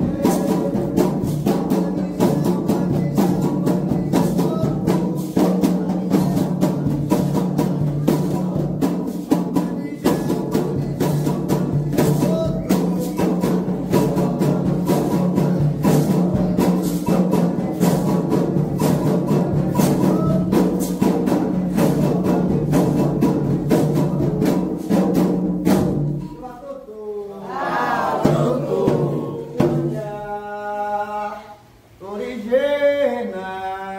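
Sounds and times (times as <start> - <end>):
hand drums playing fast rhythm: 0.0 - 26.4, 28.1 - 30.0.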